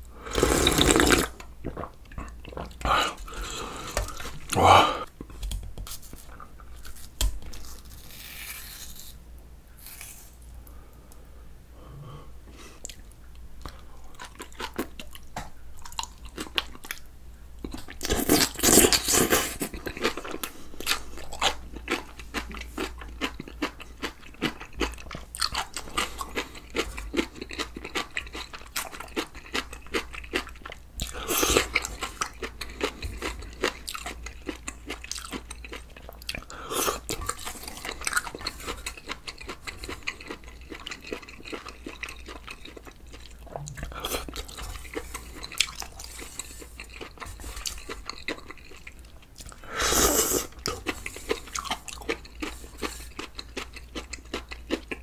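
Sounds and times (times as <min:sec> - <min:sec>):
person chewing and crunching food: 0:00.0 - 0:09.2, 0:12.5 - 0:55.0.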